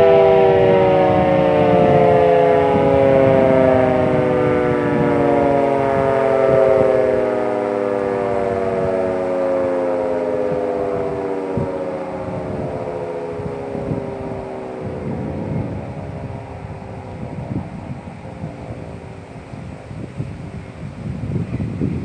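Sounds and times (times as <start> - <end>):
fire siren winding down: 0.0 - 21.4.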